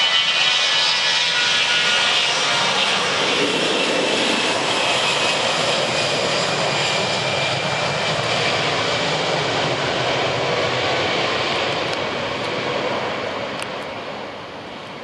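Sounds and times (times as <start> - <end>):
jet engines at takeoff thrust: 0.0 - 15.0.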